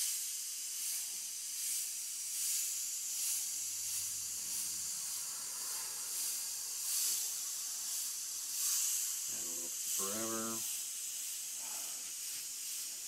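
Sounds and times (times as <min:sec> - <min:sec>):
airbrush hissing: 0:00.0 - 0:13.0.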